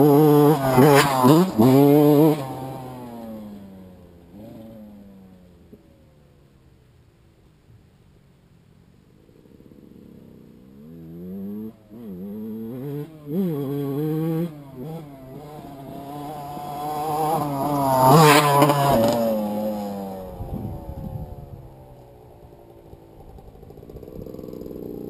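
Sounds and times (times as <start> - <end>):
dirt bike revving past: 0.0 - 5.7, 9.3 - 25.0.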